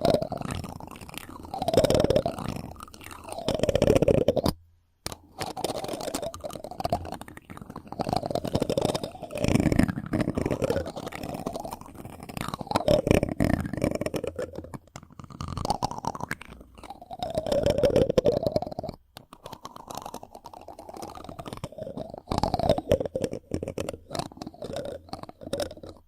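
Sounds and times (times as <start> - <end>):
rubbing and scratching on microphone: 0.0 - 26.0.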